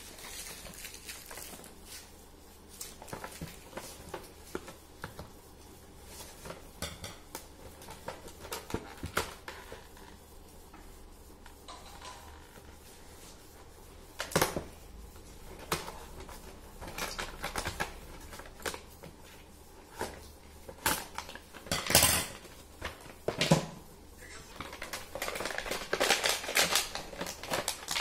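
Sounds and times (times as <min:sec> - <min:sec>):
steady low hum: 0:00.0 - 0:26.2.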